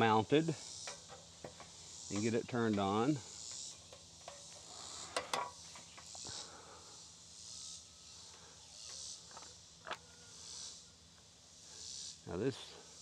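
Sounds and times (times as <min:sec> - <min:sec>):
insects calling: 0:00.0 - 0:13.0.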